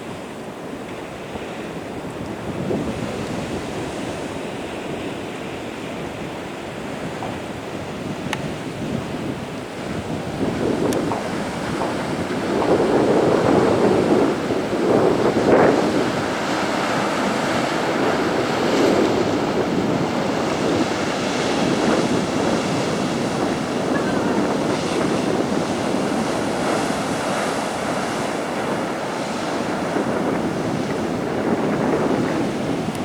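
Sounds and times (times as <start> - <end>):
waves breaking on beach: 0.0 - 33.0
wind buffeting microphone: 0.0 - 33.0.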